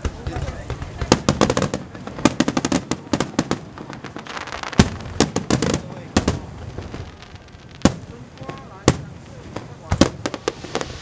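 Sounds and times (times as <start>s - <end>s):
heavy firework bang: 0.0s - 7.2s, 7.8s - 11.0s
fireworks bangs and crackling: 0.0s - 11.0s.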